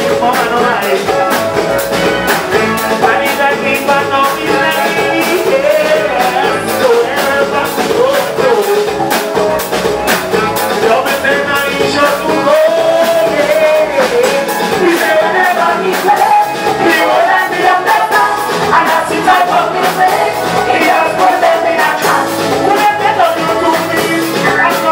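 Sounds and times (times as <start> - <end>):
live band playing soca: 0.0 - 24.9
person singing lead vocal: 0.0 - 24.9.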